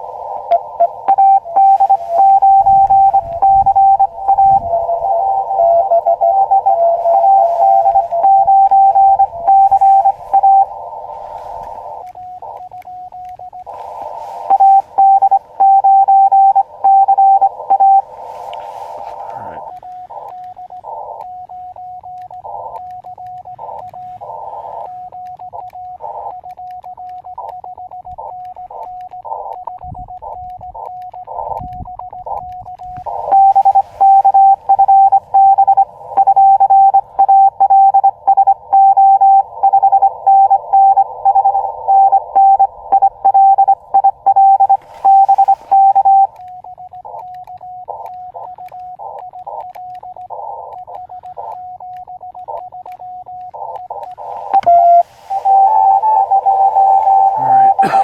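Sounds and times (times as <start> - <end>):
morse code tones: 0.0 - 58.0
receiver hiss: 0.0 - 58.0.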